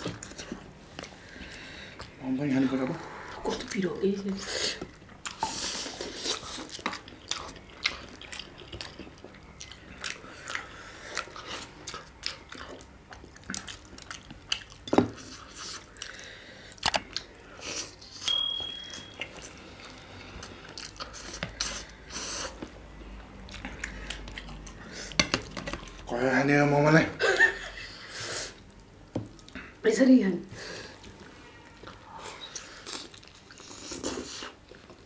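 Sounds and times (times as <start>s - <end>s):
open-mouthed chewing: 0.0s - 18.2s, 19.2s - 26.1s, 30.6s - 35.0s.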